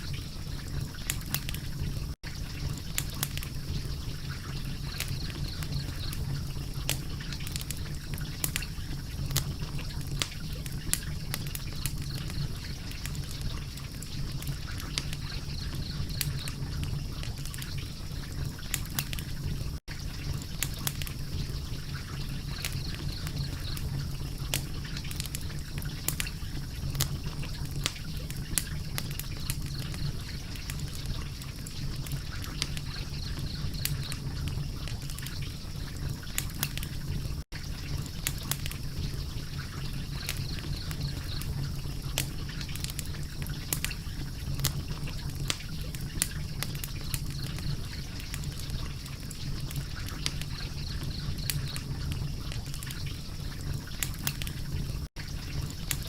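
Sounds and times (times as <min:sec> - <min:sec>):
low fire rumble: 0:00.0 - 0:56.0
wood fire popping and snapping: 0:00.0 - 0:56.0.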